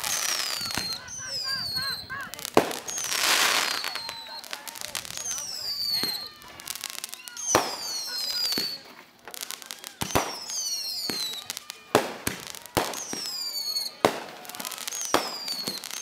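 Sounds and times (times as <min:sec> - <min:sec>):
fireworks bangs: 0:00.0 - 0:16.0
fireworks whistling: 0:00.0 - 0:16.0.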